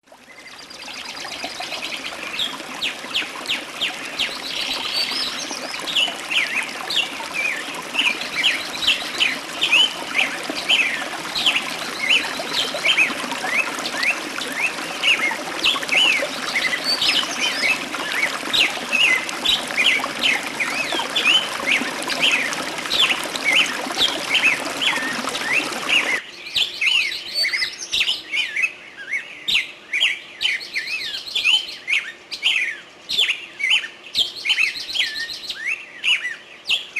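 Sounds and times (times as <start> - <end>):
songbirds chirping: 0.1 - 36.9.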